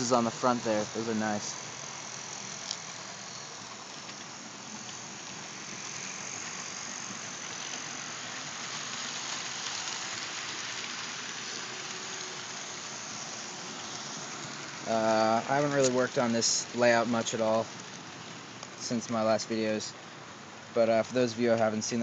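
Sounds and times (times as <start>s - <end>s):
faint high whine: 0.0s - 22.0s
model train wheels whirring: 0.0s - 22.0s.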